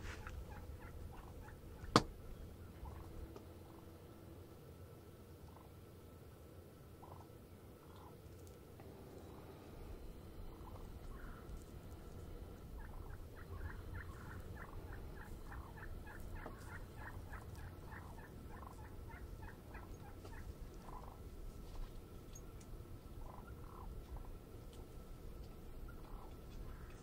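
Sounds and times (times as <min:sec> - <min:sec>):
turkey calling: 0:00.0 - 0:04.0, 0:05.4 - 0:05.8, 0:06.9 - 0:08.6, 0:10.0 - 0:27.0
low steady rumble: 0:00.0 - 0:27.0.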